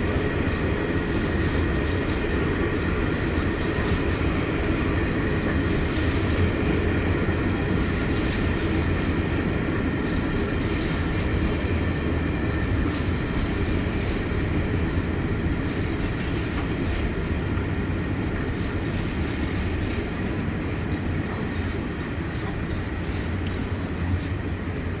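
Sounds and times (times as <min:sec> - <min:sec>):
wheels clicking over rail: 0:00.0 - 0:11.8, 0:12.4 - 0:24.4
train wagons rumbling: 0:00.0 - 0:25.0.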